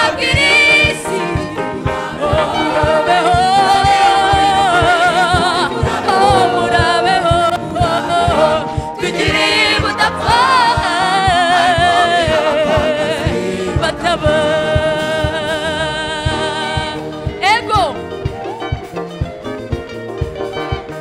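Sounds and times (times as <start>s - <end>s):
person singing with vibrato: 0.0s - 17.5s
steady drum beat: 0.0s - 21.0s.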